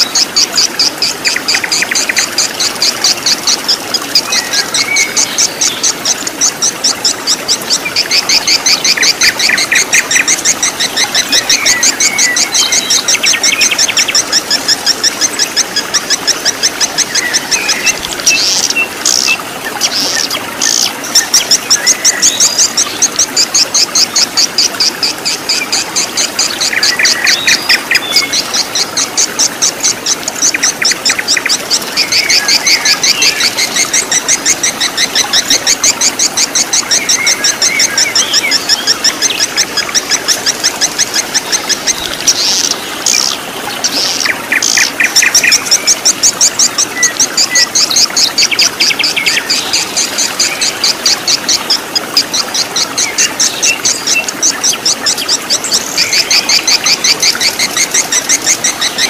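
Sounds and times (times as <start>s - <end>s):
birds chirping: 0.0s - 59.0s
stream running over rocks: 0.0s - 59.0s.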